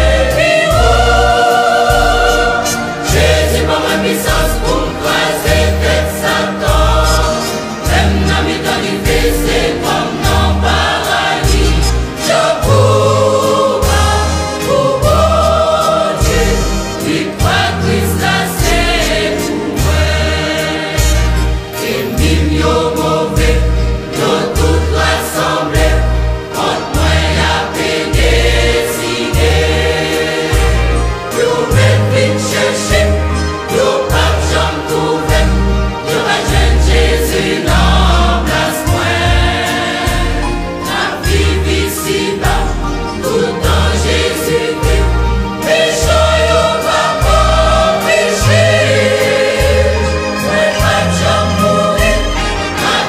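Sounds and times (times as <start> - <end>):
choir singing gospel song: 0.0 - 53.0.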